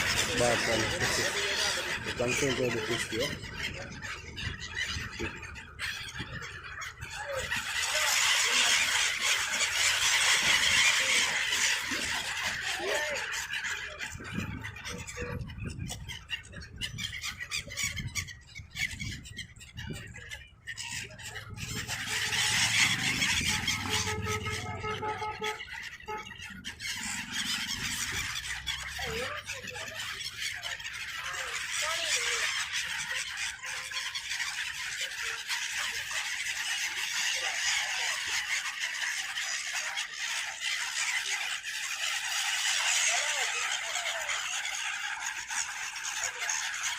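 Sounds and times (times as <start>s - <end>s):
flock of water birds calling: 0.0s - 46.9s.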